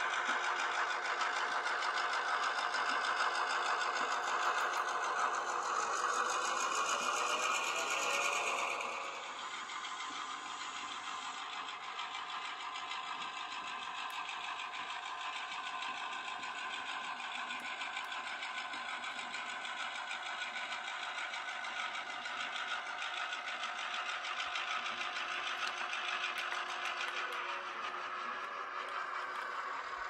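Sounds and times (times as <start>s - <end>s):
model locomotive engine drone: 0.0s - 30.0s.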